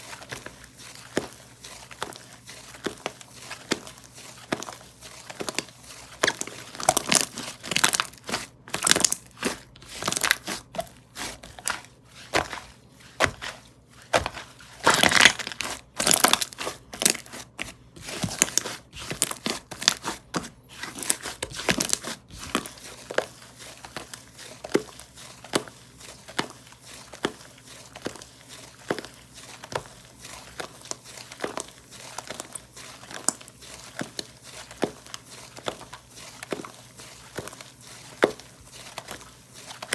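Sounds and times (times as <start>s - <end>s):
slime crackling and crinkling: 0.0s - 39.9s.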